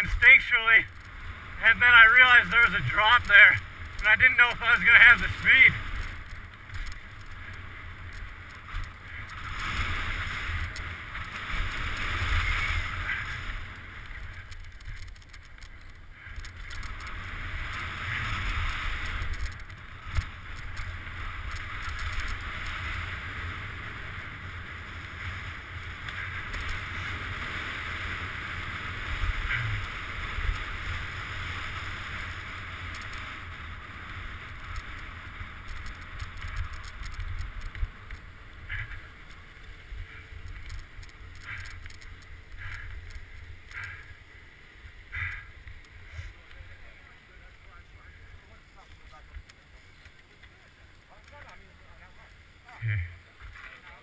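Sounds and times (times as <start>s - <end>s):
wind buffeting camera: 0.0s - 48.2s
bike tyres hissing on dirt: 5.1s - 54.0s.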